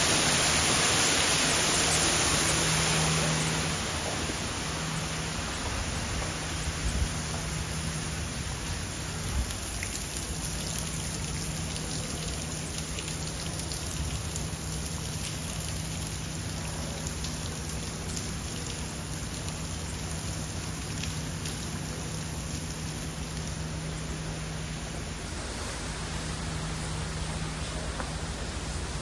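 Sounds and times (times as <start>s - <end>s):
low steady hum: 0.0s - 29.0s
steady rain falling: 0.0s - 29.0s.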